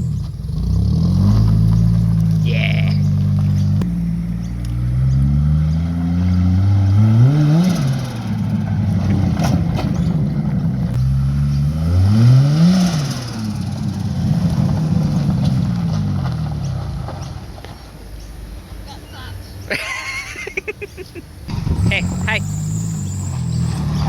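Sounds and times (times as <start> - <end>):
car engine revving: 0.0 - 18.0, 21.4 - 24.0.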